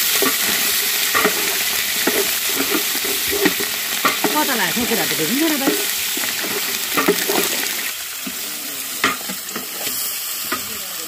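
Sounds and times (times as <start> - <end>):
meat sizzling in a pot: 0.0 - 11.0.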